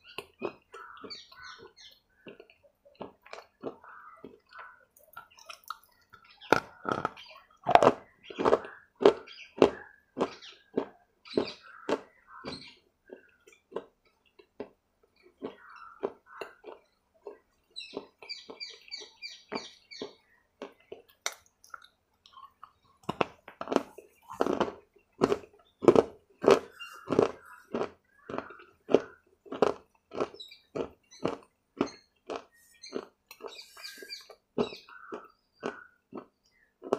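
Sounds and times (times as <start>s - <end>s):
crunchy food chewing: 0.0s - 36.9s.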